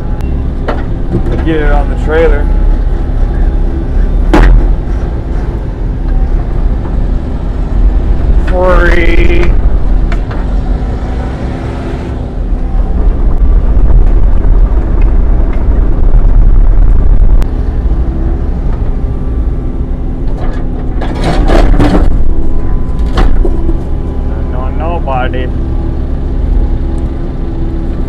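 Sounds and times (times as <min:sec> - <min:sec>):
diesel engine rumbling: 0:00.0 - 0:28.0.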